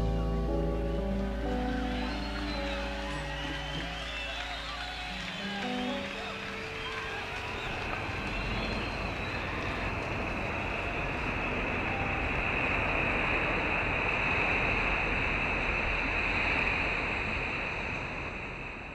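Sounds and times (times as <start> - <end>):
ocean surf breaking: 1.0 - 18.9.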